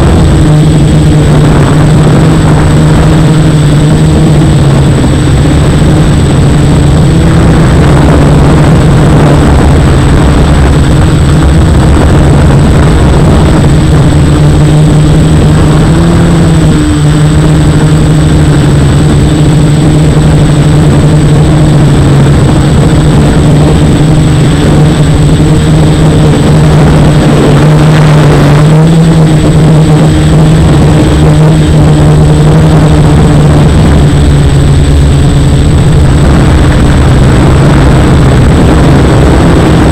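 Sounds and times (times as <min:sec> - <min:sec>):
quadcopter motors buzzing: 0:00.0 - 0:39.9
thin high whine: 0:00.0 - 0:39.9.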